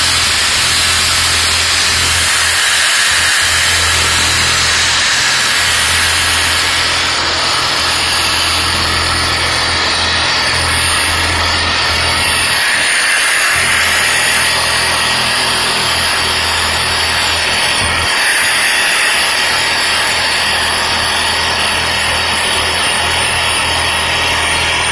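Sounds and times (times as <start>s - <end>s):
reciprocating saw motor hum: 0.0s - 24.9s.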